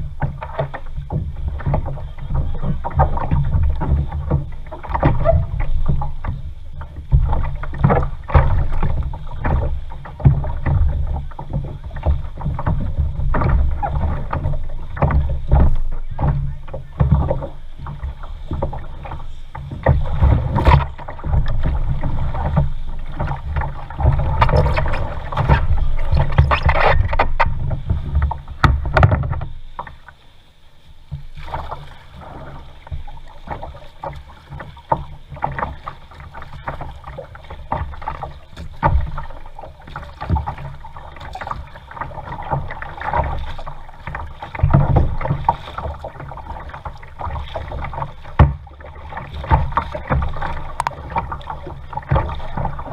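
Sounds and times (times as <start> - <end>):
paddle splashing in water: 0.0 - 52.9.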